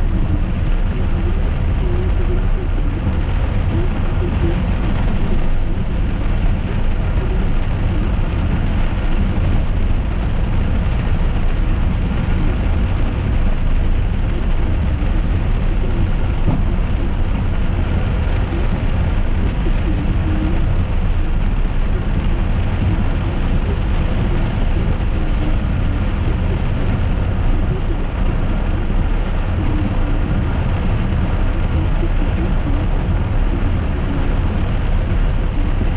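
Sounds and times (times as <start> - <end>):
car driving low rumble: 0.0 - 35.9
rain: 0.0 - 35.9.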